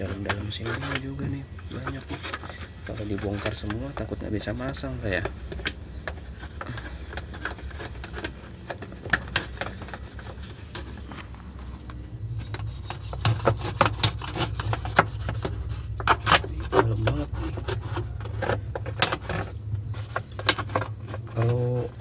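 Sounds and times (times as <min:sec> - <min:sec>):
brush scrubbing grime: 0:00.0 - 0:22.0.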